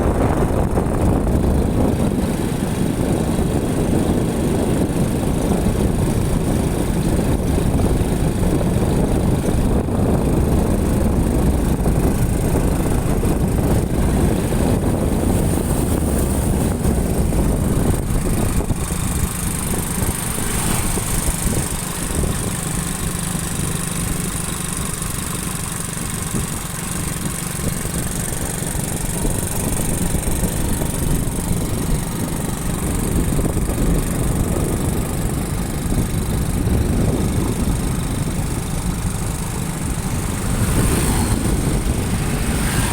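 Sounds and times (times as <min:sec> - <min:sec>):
motorcycle engine and road rumble: 0:00.0 - 0:42.9.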